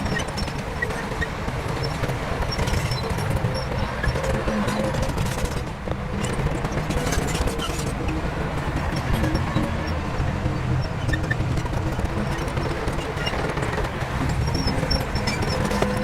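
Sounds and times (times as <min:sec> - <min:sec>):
diesel machinery rumbling: 0:00.0 - 0:16.0.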